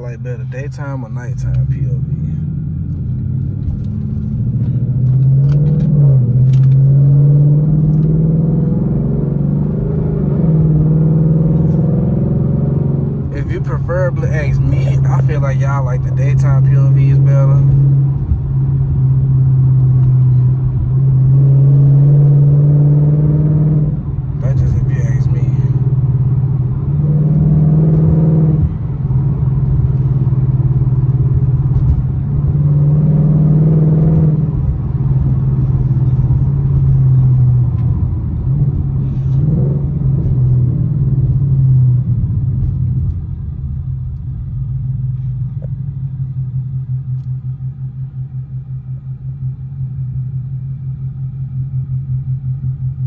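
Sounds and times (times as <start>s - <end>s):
car engine with loud exhaust: 0.0s - 53.0s.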